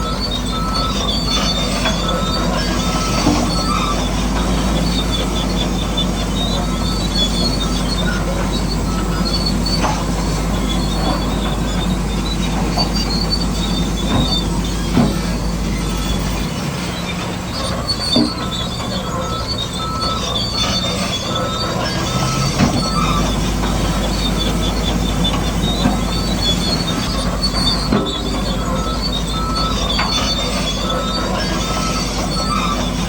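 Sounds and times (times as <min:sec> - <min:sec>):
electric motors whining: 0:00.0 - 0:33.0
tracks squealing and clattering: 0:00.0 - 0:33.0.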